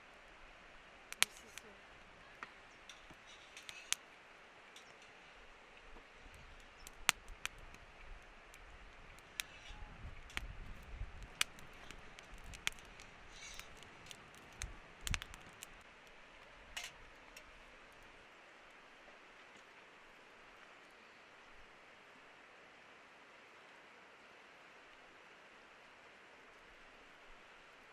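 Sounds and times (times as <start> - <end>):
faint steady hiss: 0.0 - 27.9.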